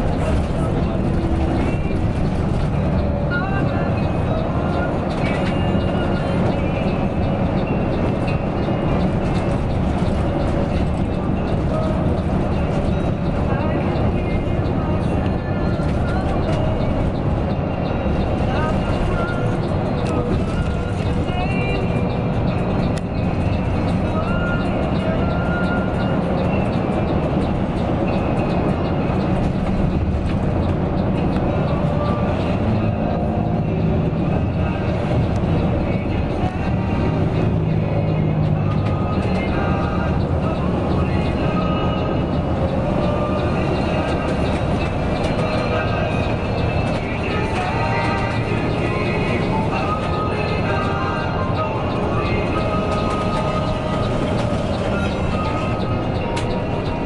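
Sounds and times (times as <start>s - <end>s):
coach engine and road rumble: 0.0s - 57.0s.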